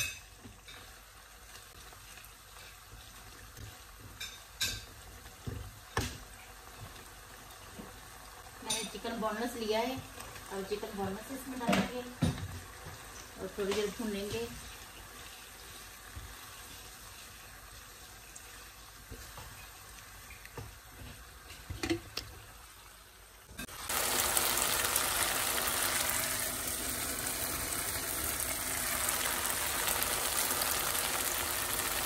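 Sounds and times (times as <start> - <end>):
chicken sizzling in a pan: 0.0 - 32.0.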